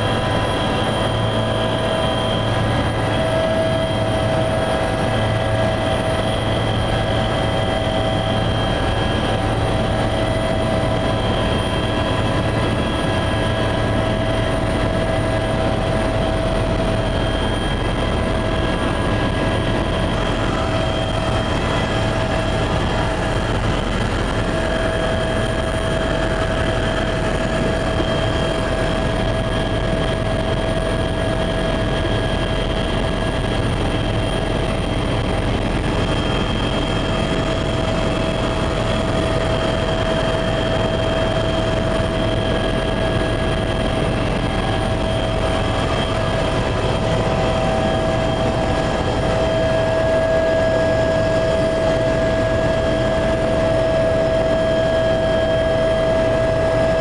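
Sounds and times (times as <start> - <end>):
constant whine: 0.0 - 57.0
helicopter turbine and rotor drone: 0.0 - 57.0.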